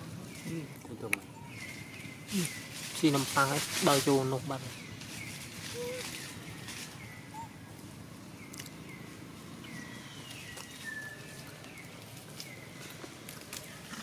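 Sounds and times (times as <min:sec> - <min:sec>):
dry leaves crackling: 0:01.4 - 0:14.0.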